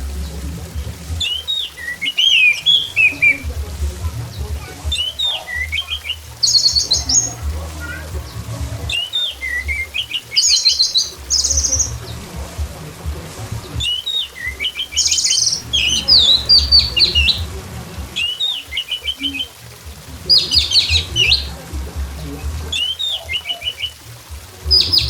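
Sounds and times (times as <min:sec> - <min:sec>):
thrush singing: 0:00.0 - 0:25.0.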